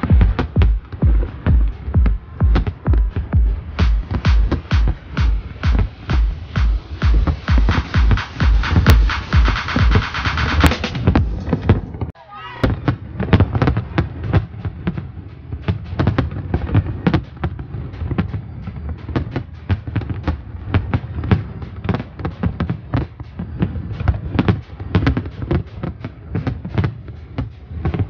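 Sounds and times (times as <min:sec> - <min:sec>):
fireworks bangs and cracks: 0:00.0 - 0:28.0.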